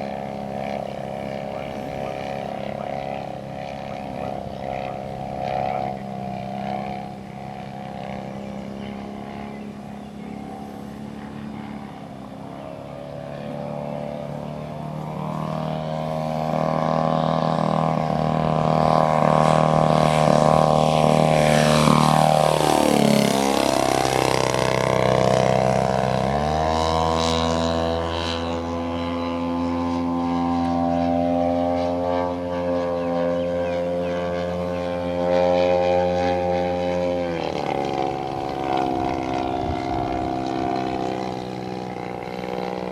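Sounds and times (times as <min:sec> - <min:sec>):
model plane engine drone: 0:00.0 - 0:42.9.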